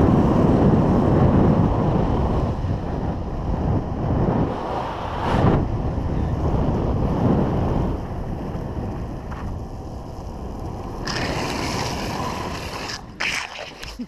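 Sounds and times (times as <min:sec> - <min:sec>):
wheels rolling on asphalt: 0:00.0 - 0:14.0
wind rushing over microphone: 0:00.0 - 0:14.0.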